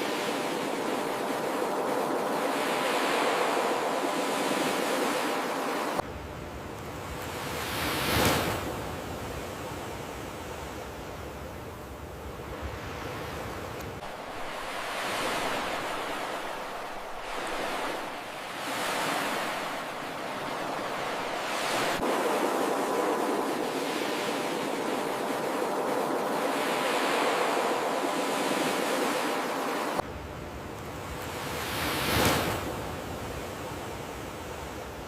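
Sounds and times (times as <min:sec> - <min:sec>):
waves breaking and washing in: 0:00.0 - 0:35.0.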